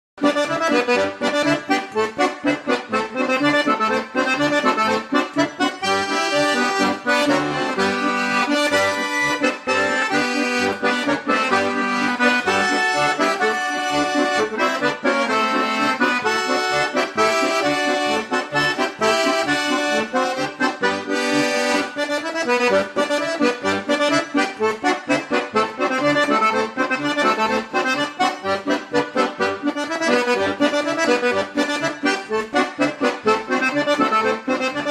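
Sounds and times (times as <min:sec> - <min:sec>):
lively accordion music: 0:00.2 - 0:34.9.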